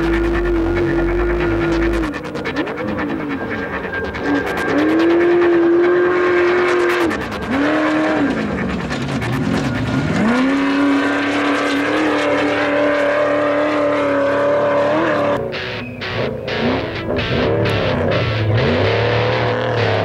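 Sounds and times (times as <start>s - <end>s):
race buggy engine revving: 0.0s - 20.0s.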